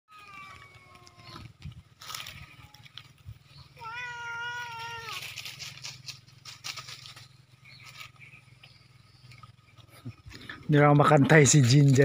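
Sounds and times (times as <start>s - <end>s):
drawn-out animal call: 0.1s - 12.0s
dry leaves rustling and crackling: 0.1s - 12.0s.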